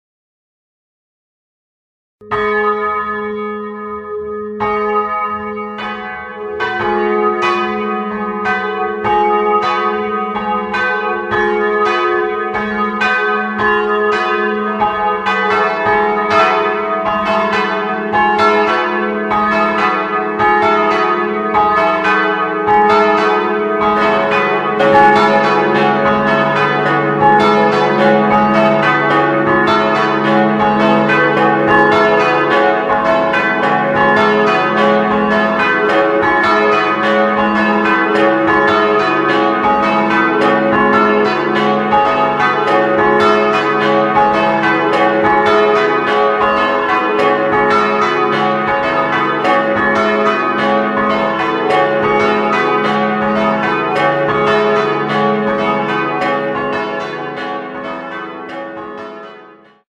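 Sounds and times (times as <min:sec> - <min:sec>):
church bells pealing: 0:02.2 - 0:59.8.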